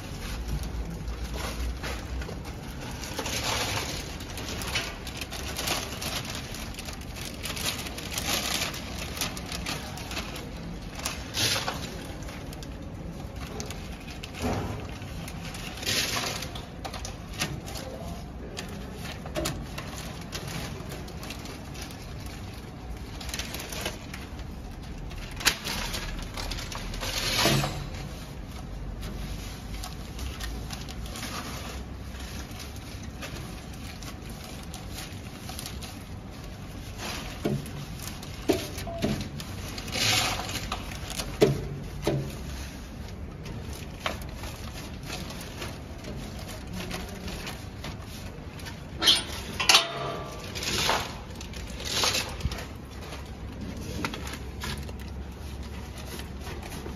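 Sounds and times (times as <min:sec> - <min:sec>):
plastic film rustling and crinkling: 0:00.0 - 0:56.9.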